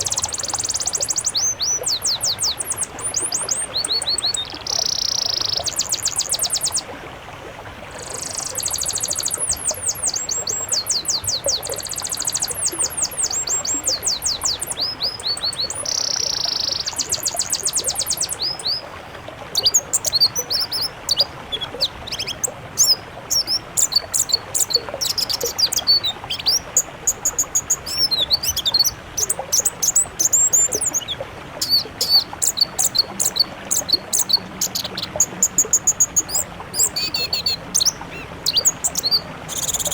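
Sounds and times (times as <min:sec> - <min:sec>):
songbirds chirping and trilling: 0:00.0 - 0:06.9, 0:07.9 - 0:18.9, 0:19.5 - 0:39.9.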